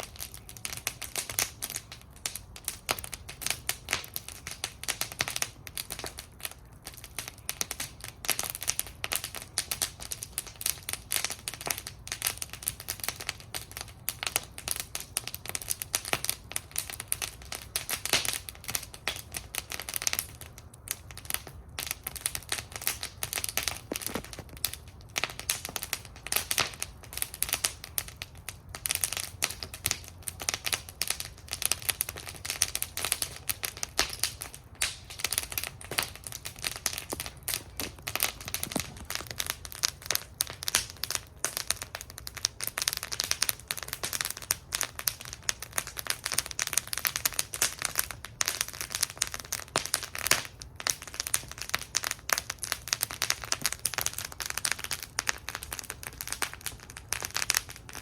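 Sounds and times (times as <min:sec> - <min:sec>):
low rumble of flame: 0:00.0 - 0:58.0
wood fire crackling: 0:00.0 - 0:58.0.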